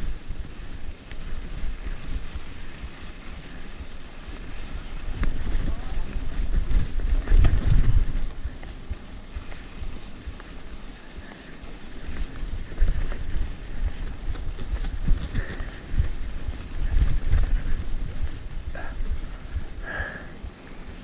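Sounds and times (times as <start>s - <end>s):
bike tyres and frame clattering: 0.0s - 21.0s
wind buffeting microphone: 0.0s - 21.0s.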